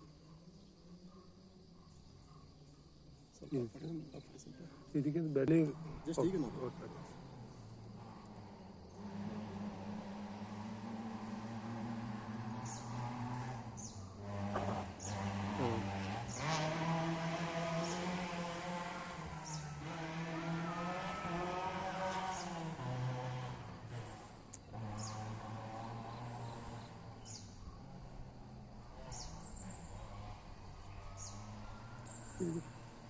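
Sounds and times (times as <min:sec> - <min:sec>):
distant rally car engine revving: 0:00.0 - 0:33.0.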